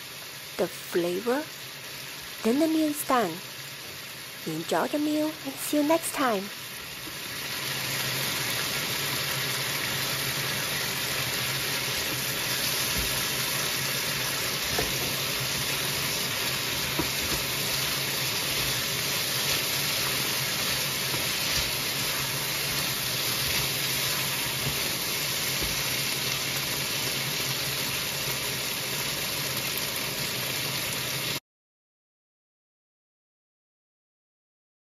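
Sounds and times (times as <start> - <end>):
food sizzling in wok: 0.0 - 31.4.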